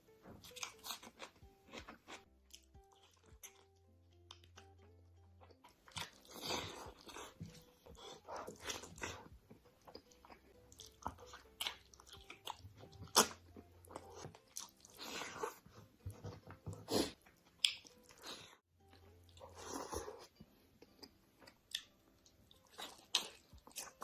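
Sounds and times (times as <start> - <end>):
crunchy chewing of crisp food: 0.4 - 4.7, 5.4 - 16.0, 16.6 - 24.0.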